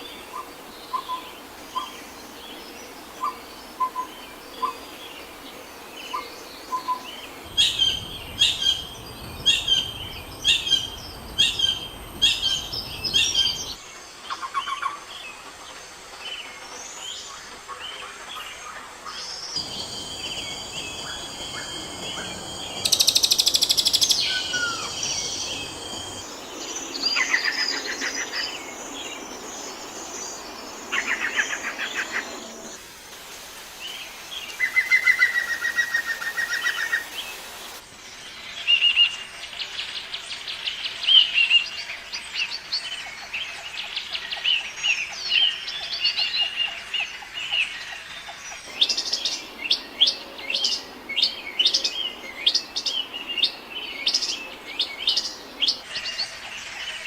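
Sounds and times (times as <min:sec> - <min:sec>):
songbirds singing and calling: 0:00.0 - 0:32.8, 0:33.9 - 0:57.0.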